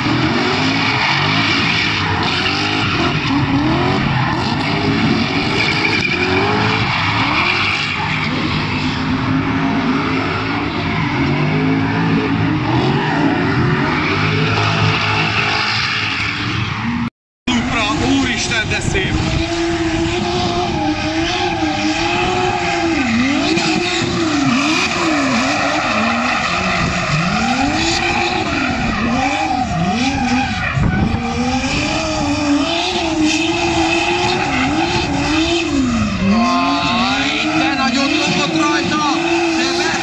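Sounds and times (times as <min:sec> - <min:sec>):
car engine revving hard: 0:00.0 - 0:16.2, 0:17.5 - 0:40.0
tyres squealing and skidding: 0:00.0 - 0:40.0.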